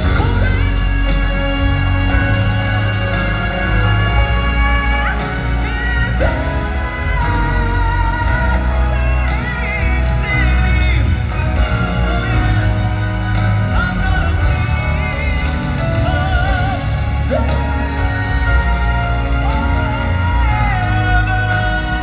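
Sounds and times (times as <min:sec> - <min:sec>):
backing band with heavy bass: 0:00.0 - 0:22.0
gospel quartet singing: 0:00.0 - 0:22.0.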